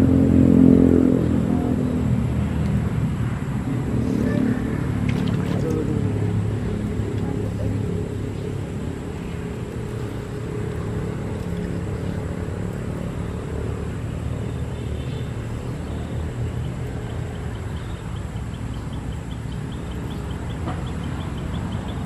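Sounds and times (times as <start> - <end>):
engine running low hum: 0.0 - 22.0.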